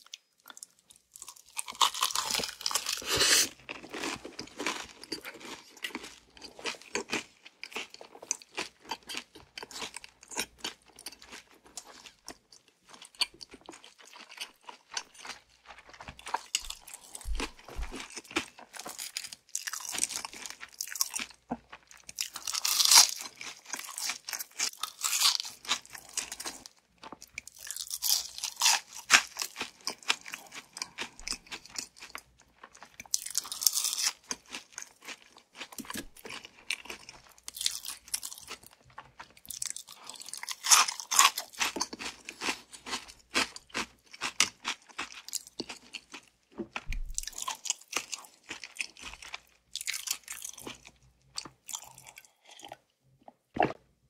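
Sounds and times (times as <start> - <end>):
crunching and chewing fried chicken: 0.0 - 54.0.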